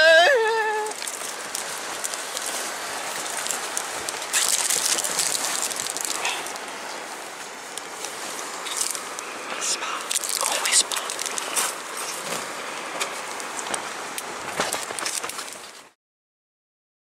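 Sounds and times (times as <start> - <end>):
wind buffeting fabric canopy: 0.0 - 16.0.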